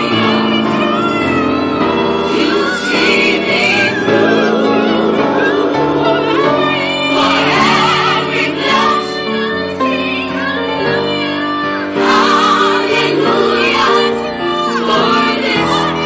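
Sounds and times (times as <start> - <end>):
piano: 0.0 - 16.0
woman singing layered harmonies: 0.0 - 16.0.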